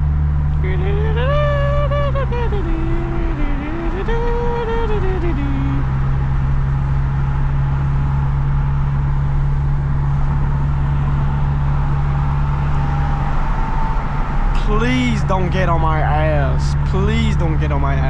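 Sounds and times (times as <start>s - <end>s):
car exhaust low drone: 0.0s - 18.0s.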